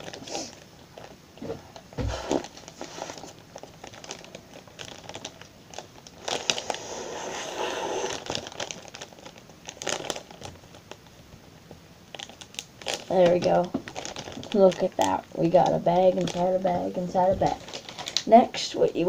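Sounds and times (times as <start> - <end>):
plastic bags crinkling: 0.0 - 1.2, 2.2 - 7.0, 7.8 - 11.2, 12.1 - 19.0.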